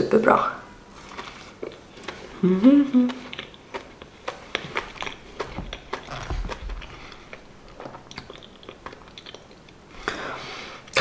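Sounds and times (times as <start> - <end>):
wet chewing mouth clicks: 1.0 - 9.8.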